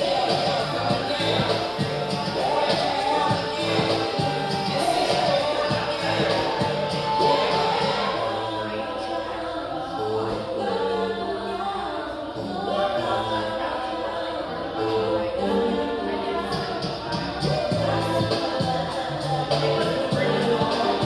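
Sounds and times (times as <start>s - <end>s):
music with sung vocals: 0.0s - 21.0s.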